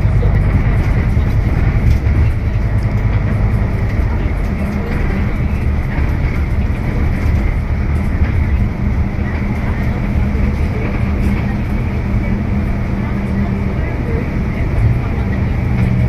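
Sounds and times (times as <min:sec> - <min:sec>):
bus engine rumble and road noise: 0:00.0 - 0:16.0.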